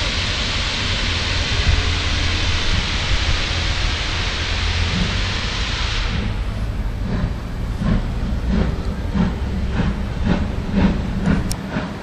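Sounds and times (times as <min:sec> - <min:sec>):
low rumble: 0:00.0 - 0:12.0
steam hissing from locomotive: 0:00.0 - 0:12.0.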